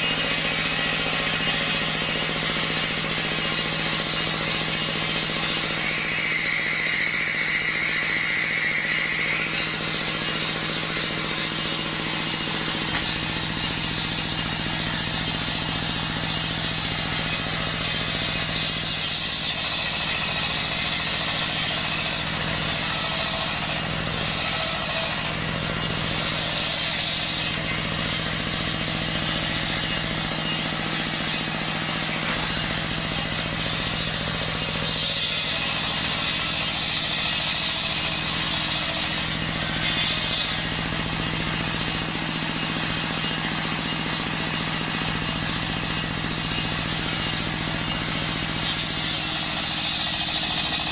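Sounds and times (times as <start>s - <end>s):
circular saw cutting log: 0.0s - 50.9s
sawmill engine drone: 0.0s - 50.9s.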